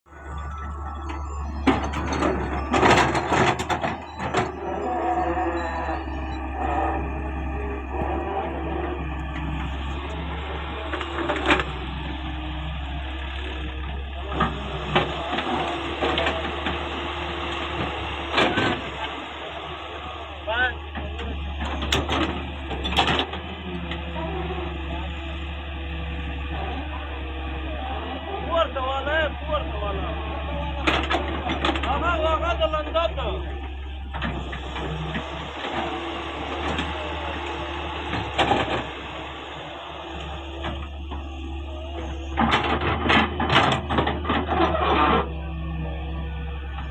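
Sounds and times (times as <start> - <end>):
heavy diesel machinery running: 0.0 - 46.9
excavator engine and hydraulics: 0.1 - 46.9.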